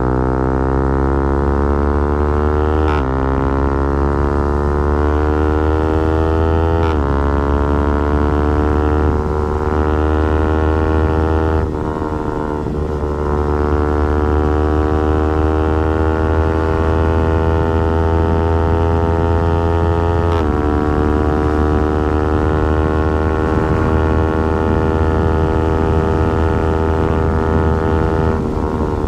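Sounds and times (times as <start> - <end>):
motorcycle engine at full throttle: 0.0 - 29.0.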